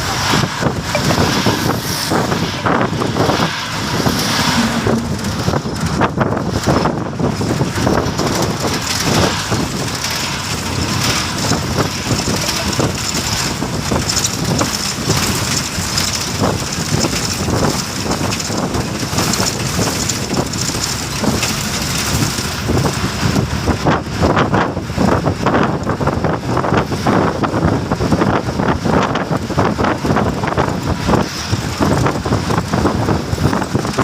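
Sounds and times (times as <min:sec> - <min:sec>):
road vehicle rushing noise: 0:00.0 - 0:34.0
wind on microphone: 0:00.0 - 0:34.0.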